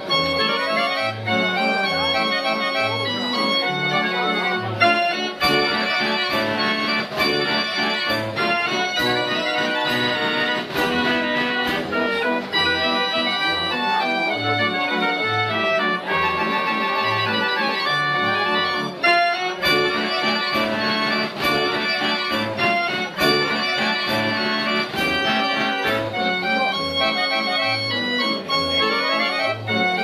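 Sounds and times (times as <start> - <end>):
fairground organ playing: 0.0 - 30.0.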